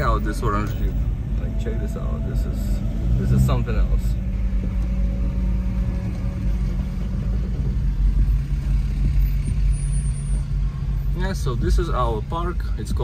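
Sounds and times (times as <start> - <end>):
car engine low hum: 0.0 - 13.0.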